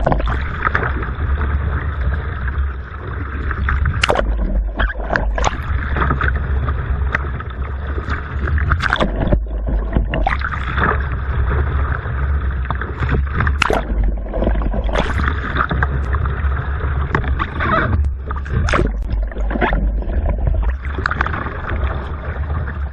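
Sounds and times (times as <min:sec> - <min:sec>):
low rumble: 0:00.0 - 0:22.9
paddle splashes: 0:00.0 - 0:22.9
water sloshing around kayak: 0:00.0 - 0:22.9.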